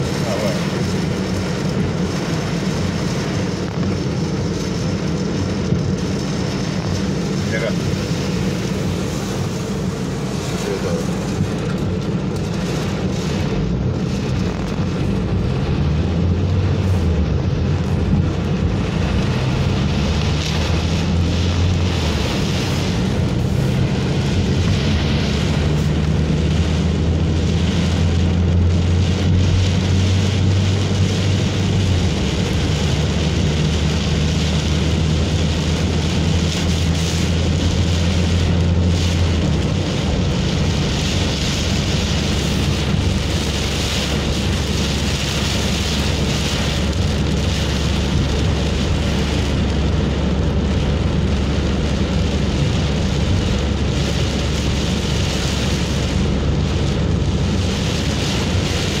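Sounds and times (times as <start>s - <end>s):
car engine and tyre drone: 0.0s - 59.0s
heavy rain pelting a car: 0.0s - 59.0s.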